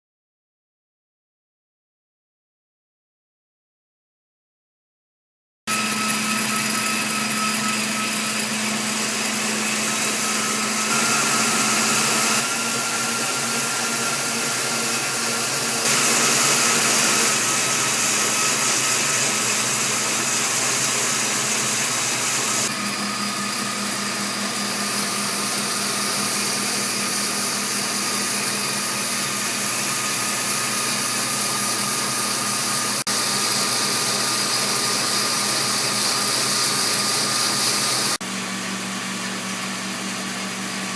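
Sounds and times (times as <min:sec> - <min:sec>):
coffee roaster blowing air: 0:05.7 - 0:40.9.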